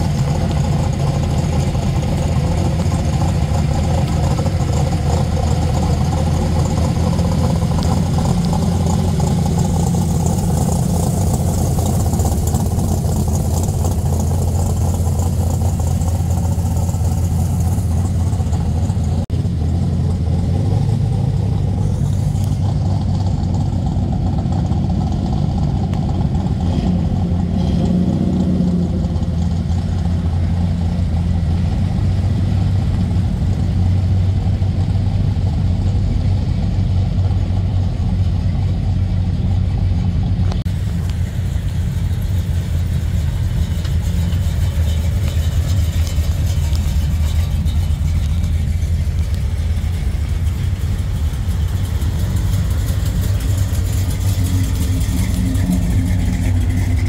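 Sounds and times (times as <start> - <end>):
car engines idling and rumbling: 0.0 - 57.0.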